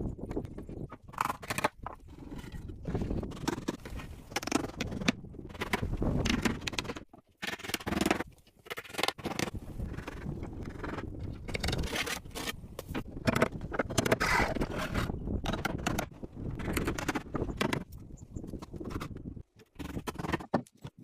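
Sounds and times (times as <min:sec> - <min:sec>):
scraping and scratching: 0:00.3 - 0:21.0.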